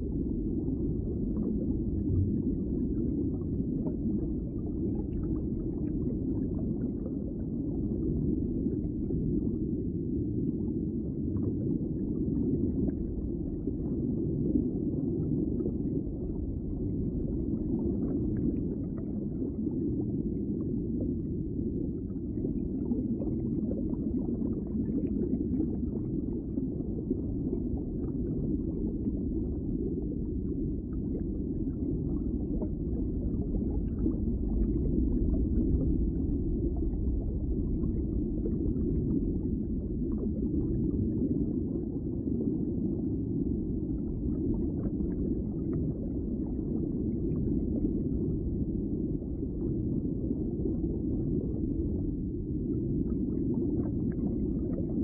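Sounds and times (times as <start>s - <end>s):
muffled running water: 0.0s - 55.0s.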